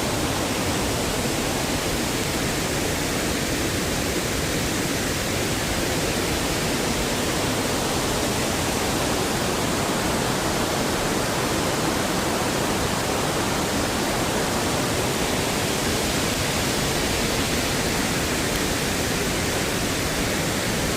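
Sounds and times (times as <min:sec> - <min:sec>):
waterfall roaring: 0:00.0 - 0:20.9.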